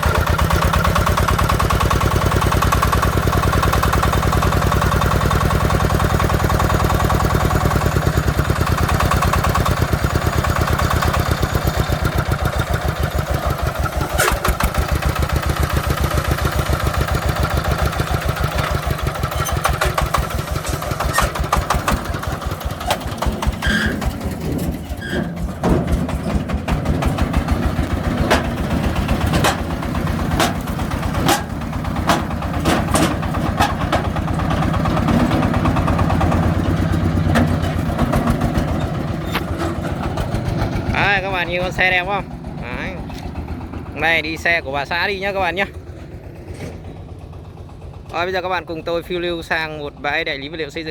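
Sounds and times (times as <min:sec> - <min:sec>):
diesel engine chugging: 0:00.0 - 0:50.9
engine knocks: 0:00.0 - 0:50.9.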